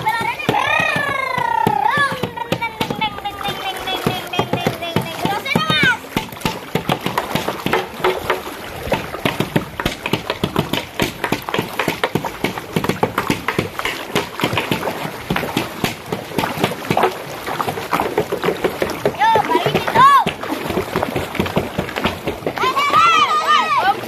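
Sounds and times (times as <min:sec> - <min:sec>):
water sloshing against plastic jugs: 0:00.0 - 0:24.0.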